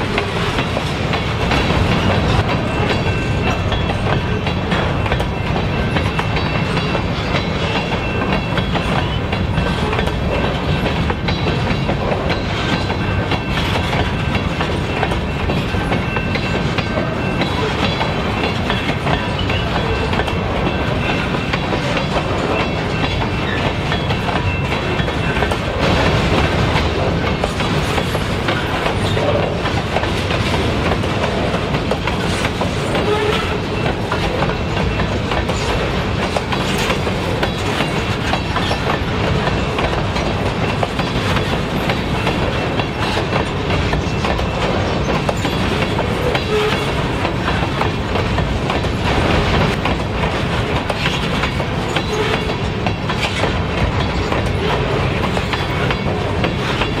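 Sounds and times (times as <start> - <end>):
train wheels rumbling: 0.0 - 57.0
wheels clacking on rail joints: 0.0 - 57.0.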